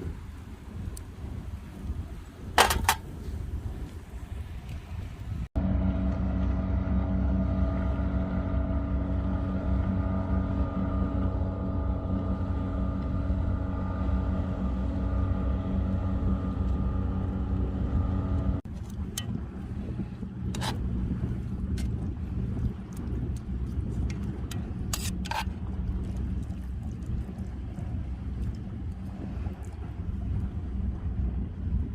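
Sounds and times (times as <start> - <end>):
steady motor drone: 5.6 - 31.9.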